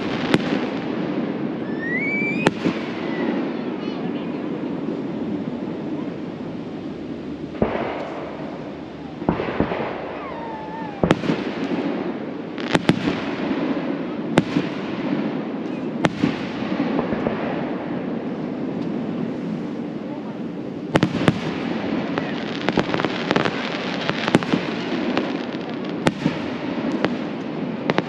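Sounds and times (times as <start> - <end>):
fireworks bursting with crackle: 0.0 - 28.0.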